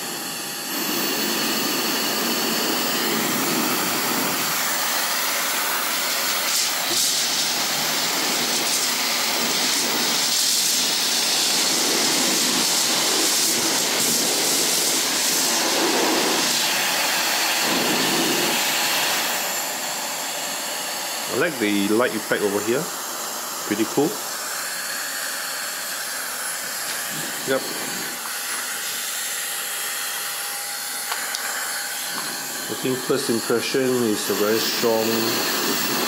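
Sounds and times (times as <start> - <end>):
hair dryer blowing air: 0.0 - 36.0.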